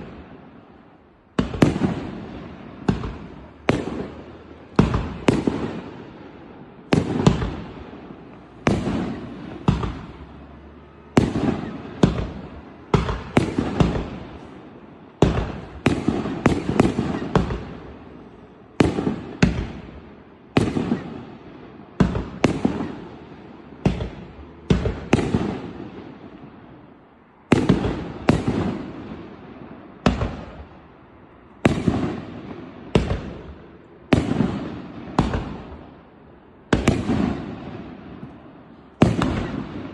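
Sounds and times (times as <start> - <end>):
firework bangs with echo: 1.3 - 26.6, 27.4 - 30.8, 31.6 - 36.0, 36.7 - 39.9.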